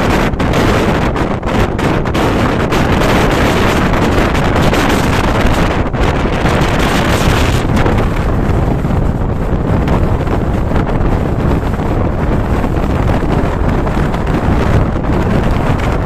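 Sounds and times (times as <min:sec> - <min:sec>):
train rumbling on rails: 0:00.0 - 0:16.0
wind buffeting microphone: 0:00.0 - 0:16.0.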